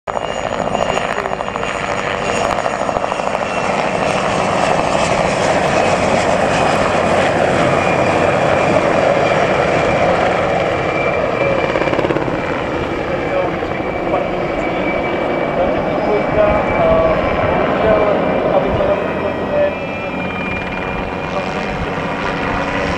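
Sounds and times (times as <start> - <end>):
helicopters flying past: 0.1 - 22.9
high turbine whine: 0.1 - 22.9.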